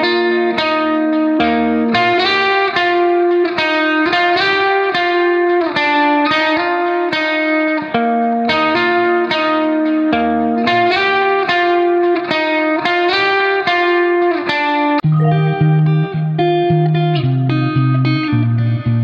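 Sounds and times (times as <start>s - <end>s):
plucked guitar notes: 0.0s - 19.0s.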